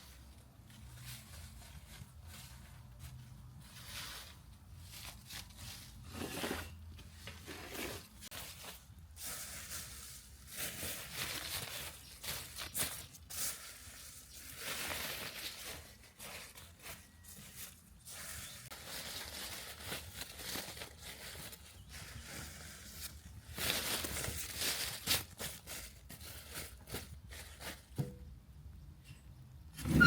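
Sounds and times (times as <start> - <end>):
rustling and crinkling: 0.0 - 28.4.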